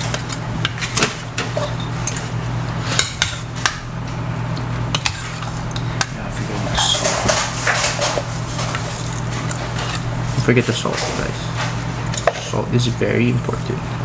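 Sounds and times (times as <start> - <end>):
utensils clinking on dishes: 0.0 - 3.5, 4.9 - 12.7
steady low hum: 0.0 - 14.0.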